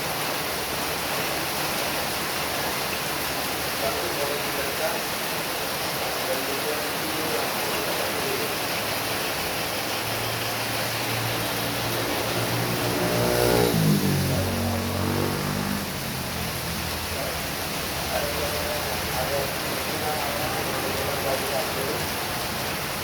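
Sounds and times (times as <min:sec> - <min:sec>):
heavy rain falling: 0:00.0 - 0:23.0
vehicle passing on wet road: 0:00.0 - 0:23.0.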